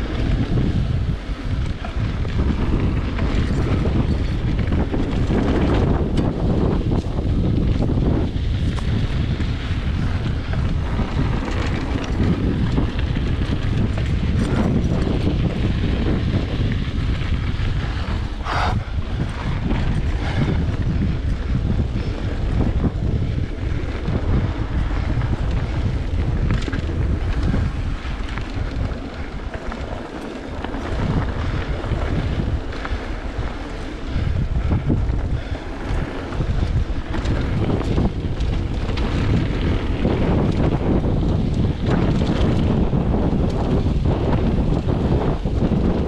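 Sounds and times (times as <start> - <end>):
bike clicks and knocks: 0.0 - 46.0
bike tyres rumbling on dirt: 0.0 - 46.0
wind rushing over microphone: 0.0 - 46.0.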